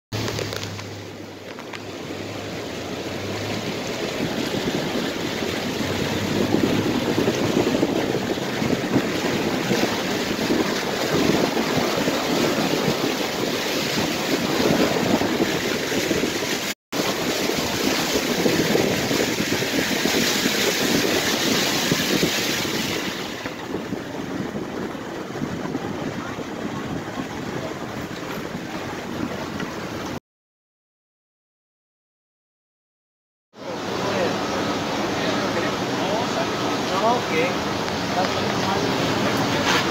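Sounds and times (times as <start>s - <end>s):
river rushing: 0.2s - 30.2s, 33.6s - 39.9s.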